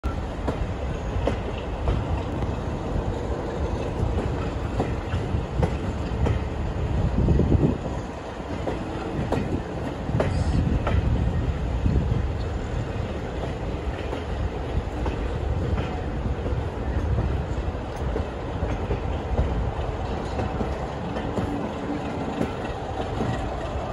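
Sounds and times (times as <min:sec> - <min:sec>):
train carriages rumbling: 0:00.0 - 0:23.9
wheels clacking over rail joints: 0:00.0 - 0:23.9.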